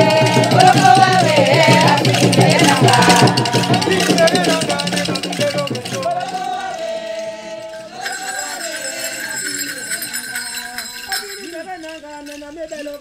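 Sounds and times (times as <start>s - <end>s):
bell ringing: 0.0s - 13.0s
person singing wavering melody: 0.0s - 13.0s
rattle-backed music: 0.0s - 13.0s.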